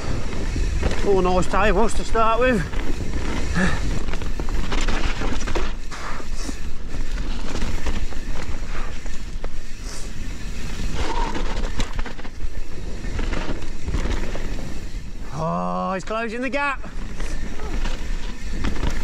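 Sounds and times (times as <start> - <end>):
bike rattling clicks and knocks: 0.0 - 19.0
mountain bike rushing rumble: 0.0 - 19.0.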